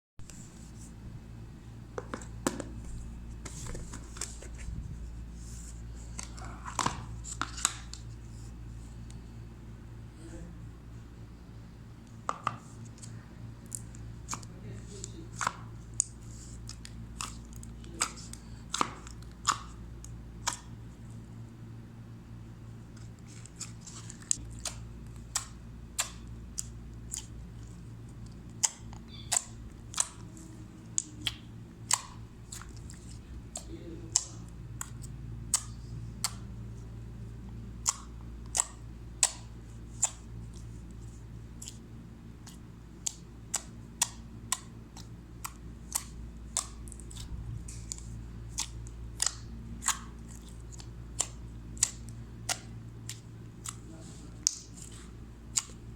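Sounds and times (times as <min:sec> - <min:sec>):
steady low hum: 0:00.2 - 0:55.9.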